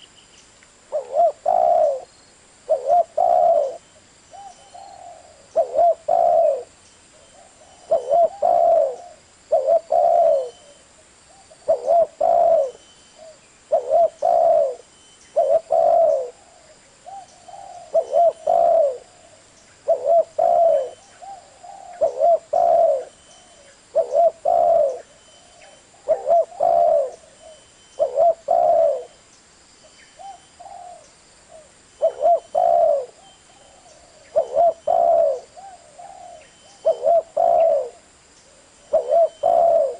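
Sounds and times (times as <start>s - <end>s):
dove cooing: 0.9s - 2.1s, 2.7s - 29.2s, 30.2s - 39.9s.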